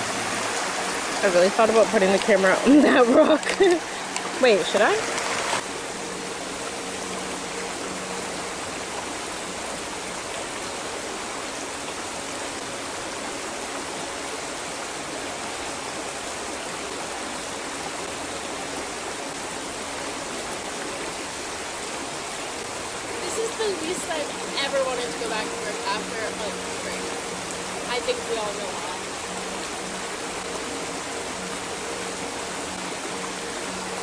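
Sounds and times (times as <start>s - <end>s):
creek water running over rocks: 0.0s - 34.0s.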